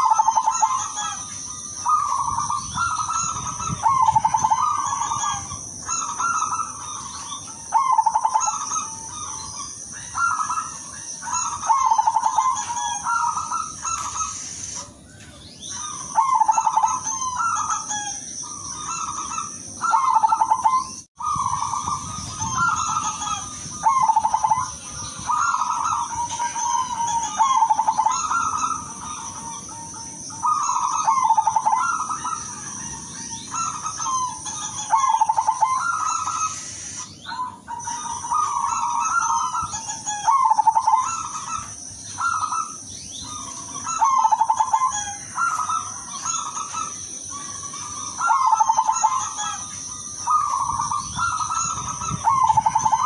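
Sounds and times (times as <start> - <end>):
dove cooing: 0.0 - 53.0
steady high-pitched hiss: 0.0 - 53.0.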